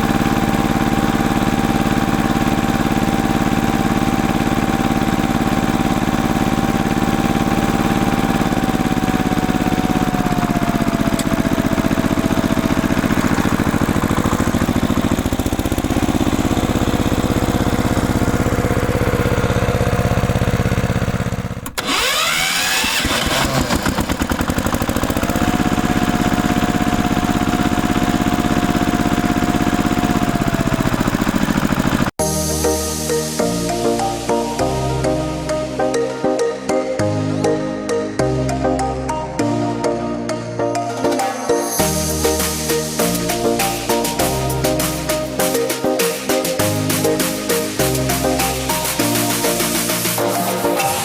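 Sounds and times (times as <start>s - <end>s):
engine running: 0.0s - 36.5s, 40.8s - 51.0s.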